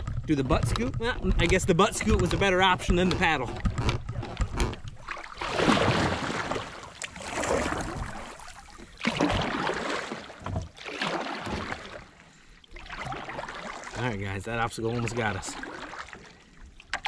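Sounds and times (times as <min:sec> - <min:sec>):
kayak hull noise: 0:00.0 - 0:17.0
water splashing: 0:00.0 - 0:17.0.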